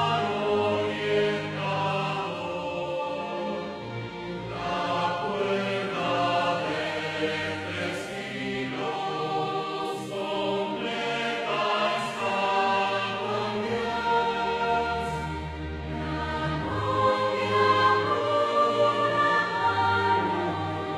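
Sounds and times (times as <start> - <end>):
choir singing a hymn: 0.0 - 20.9.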